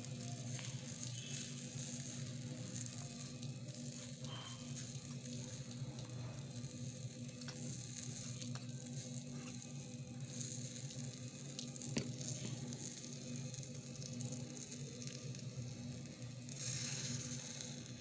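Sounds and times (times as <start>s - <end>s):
vegetables sizzling in a wok: 0.0s - 18.0s.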